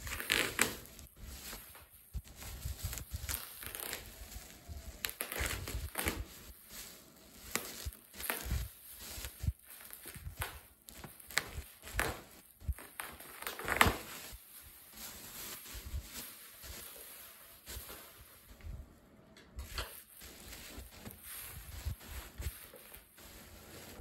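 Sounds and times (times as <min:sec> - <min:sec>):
bubble wrap crackling: 0:00.0 - 0:24.0.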